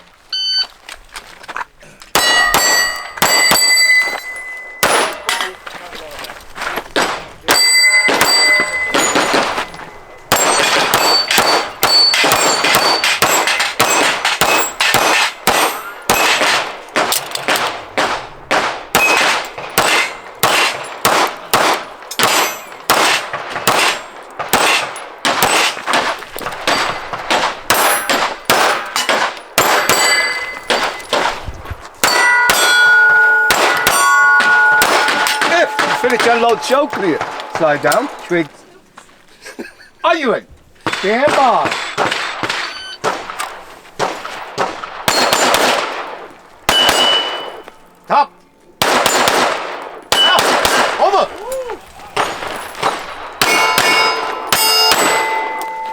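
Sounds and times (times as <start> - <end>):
pistol shots: 2.1 - 5.6, 7.0 - 31.4, 32.0 - 38.4, 40.8 - 47.7, 48.8 - 51.2, 52.2 - 55.9
steel targets ringing clang: 2.1 - 6.2, 7.0 - 31.4, 32.0 - 38.5, 44.0 - 51.2, 52.1 - 55.9.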